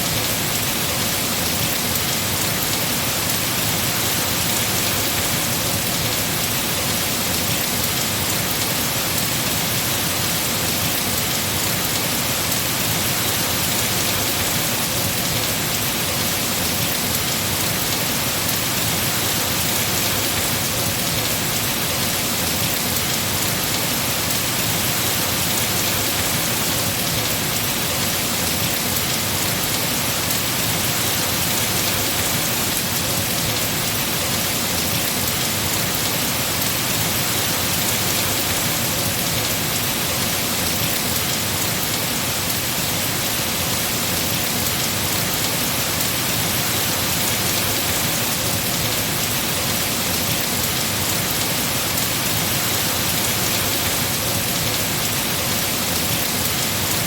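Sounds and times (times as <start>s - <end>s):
heavy rain falling on trees: 0.0s - 57.0s.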